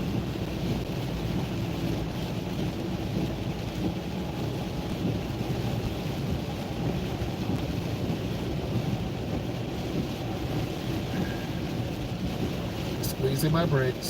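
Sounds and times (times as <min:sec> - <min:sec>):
rain: 0:00.0 - 0:14.0
tyres on wet road: 0:00.0 - 0:14.0.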